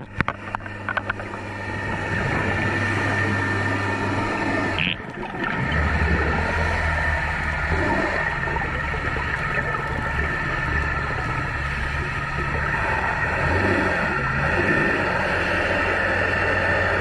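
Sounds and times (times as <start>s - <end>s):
underwater engine hum: 0.0s - 17.0s.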